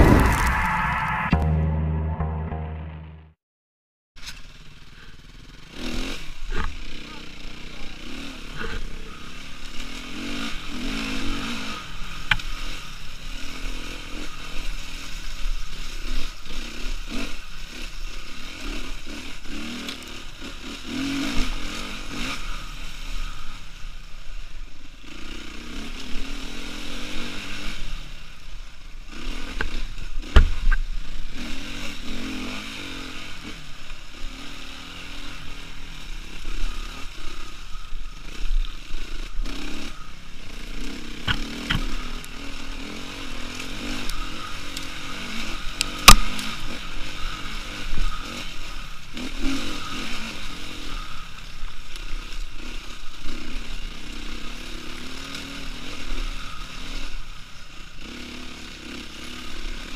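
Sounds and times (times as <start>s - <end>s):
dirt bike engine revving: 4.4s - 59.9s.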